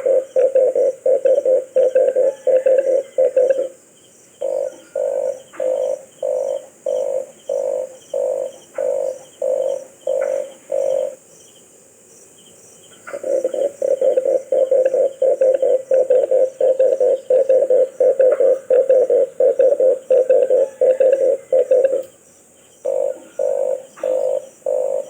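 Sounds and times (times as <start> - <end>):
dove cooing: 0.0 - 3.8, 4.4 - 11.2, 13.0 - 22.2, 22.8 - 25.0.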